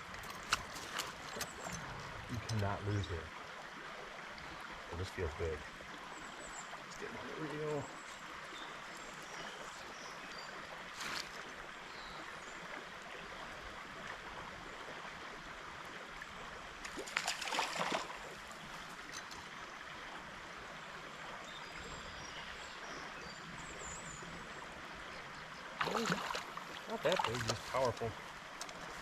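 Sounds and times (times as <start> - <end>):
stream water rushing: 0.0 - 23.7, 24.3 - 29.0.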